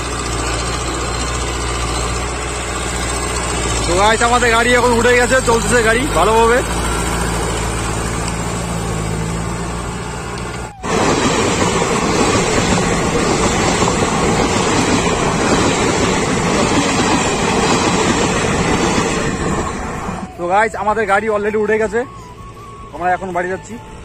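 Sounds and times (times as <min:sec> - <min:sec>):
tractor diesel engine running: 0:00.0 - 0:24.0
train coaches rolling past: 0:00.0 - 0:24.0.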